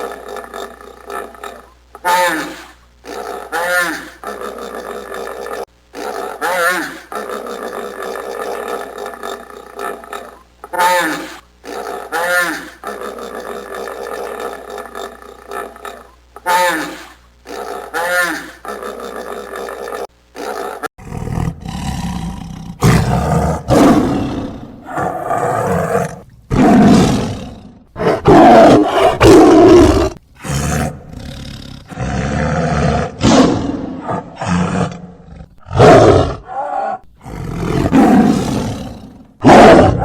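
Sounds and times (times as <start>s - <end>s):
large animal roaring: 6.0s - 40.0s.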